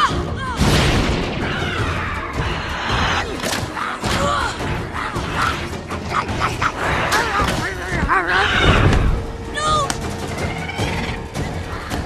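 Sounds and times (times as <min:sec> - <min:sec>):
action soundtrack music: 0:00.0 - 0:12.0.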